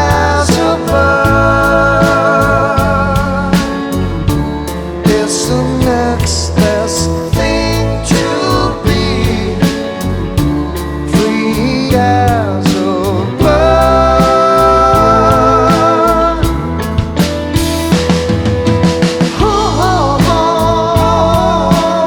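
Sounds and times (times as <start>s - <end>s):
person singing: 0.0s - 17.3s, 19.3s - 22.0s
drum hits: 0.0s - 22.0s
live band playing slow rock: 0.0s - 22.0s.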